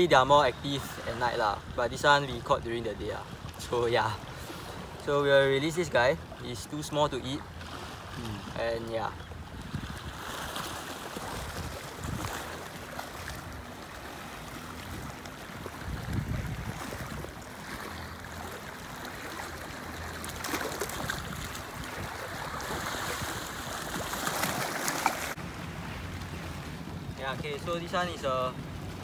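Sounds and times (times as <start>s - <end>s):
waves lapping against rocks: 0.0s - 29.0s.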